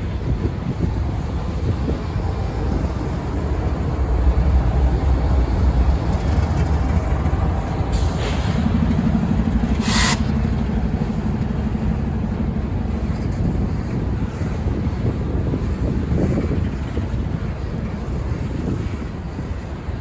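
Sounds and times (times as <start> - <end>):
freight train rumbling past: 0.0 - 20.0
wind buffeting microphone: 0.0 - 20.0.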